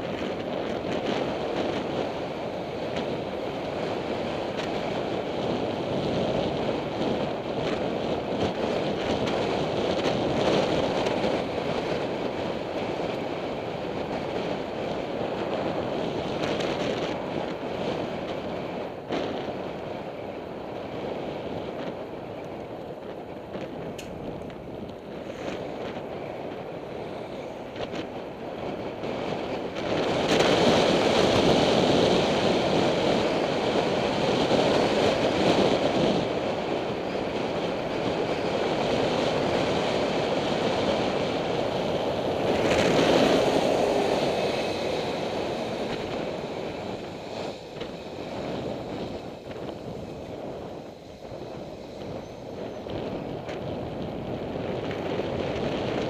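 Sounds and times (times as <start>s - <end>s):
road noise: 0.0s - 56.0s
wind rushing over microphone: 0.0s - 56.0s.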